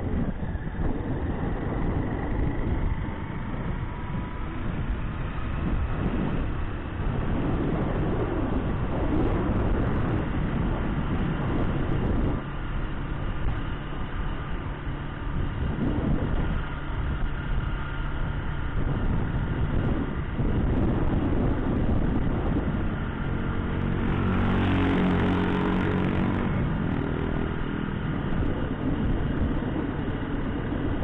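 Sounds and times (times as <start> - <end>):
vehicle engine rumble: 0.0 - 31.0
wind and road noise: 0.0 - 31.0.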